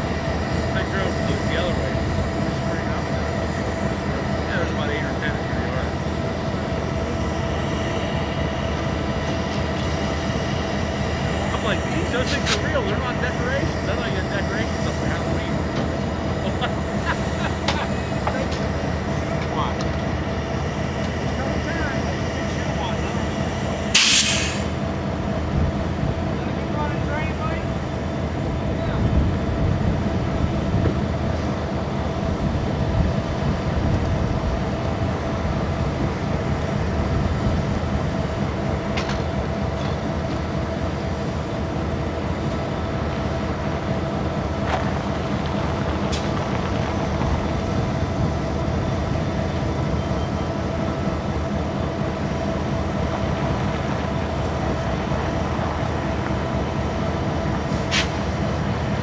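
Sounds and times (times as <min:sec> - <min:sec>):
locomotive diesel engines running: 0:00.0 - 0:59.0
steady whine: 0:00.0 - 0:59.0.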